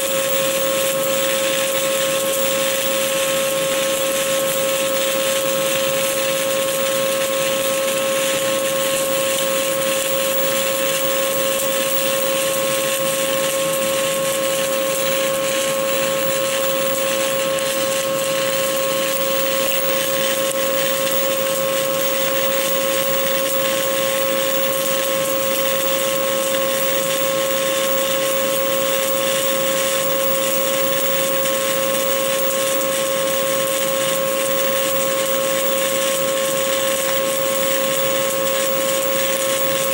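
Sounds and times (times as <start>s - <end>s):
welding arc hissing and humming: 0.0s - 39.9s.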